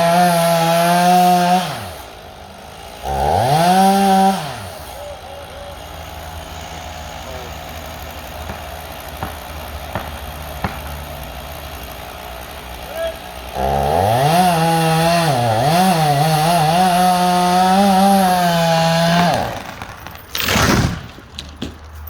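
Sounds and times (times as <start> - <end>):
chainsaw revving and idling: 0.0 - 21.2.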